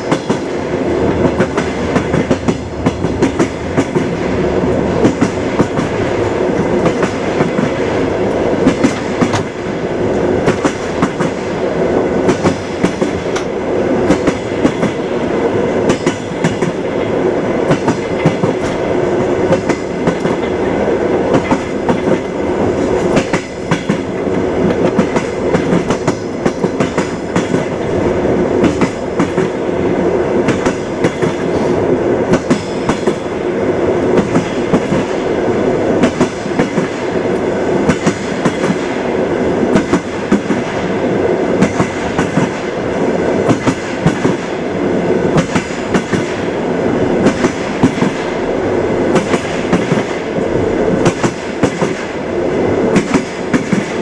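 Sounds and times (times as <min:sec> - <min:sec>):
train wheels clacking over rail joints: 0:00.0 - 0:11.6, 0:12.2 - 0:28.0, 0:28.6 - 0:29.6, 0:30.4 - 0:33.4, 0:34.0 - 0:35.3, 0:36.0 - 0:40.9, 0:41.6 - 0:44.6, 0:45.2 - 0:52.2, 0:52.9 - 0:54.0
moving train rumble: 0:00.0 - 0:54.0.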